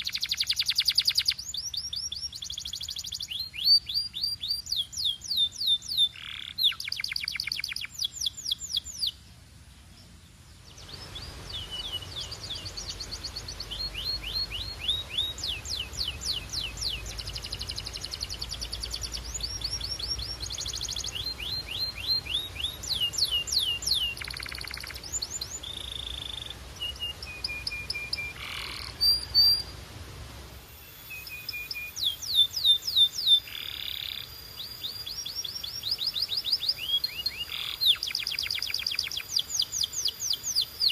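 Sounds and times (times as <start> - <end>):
canary singing: 0.0 - 9.2, 10.7 - 29.8, 30.9 - 40.9.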